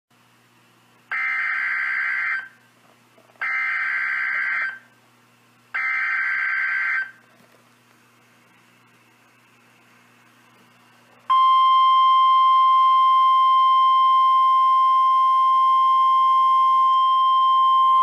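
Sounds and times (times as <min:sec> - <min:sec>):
faint steady hum: 0:00.1 - 0:18.0.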